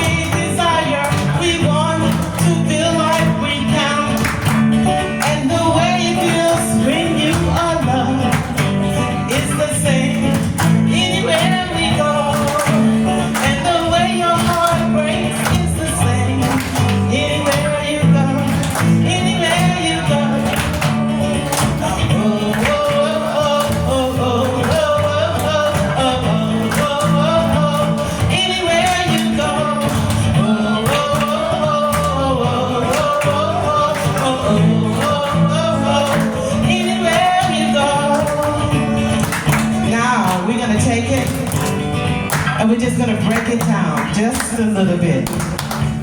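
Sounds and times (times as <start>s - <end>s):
person singing: 0.0s - 41.7s
live band playing: 0.0s - 46.0s.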